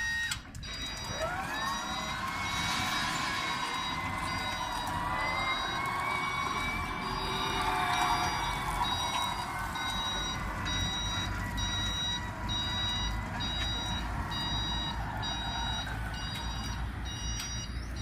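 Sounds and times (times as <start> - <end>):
high warning beeps: 0.0 - 18.0
low vehicle drive noise: 0.0 - 18.0.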